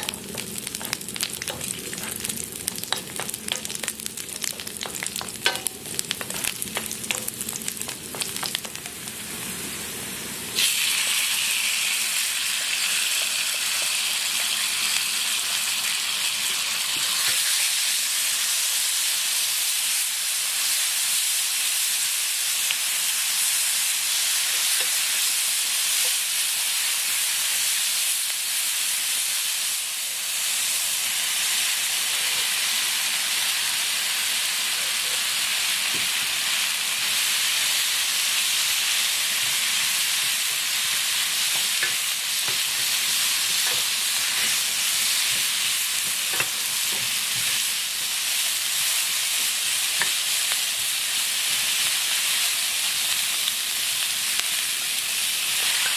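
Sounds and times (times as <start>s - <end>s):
food sizzling in a frying pan: 0.0s - 55.9s.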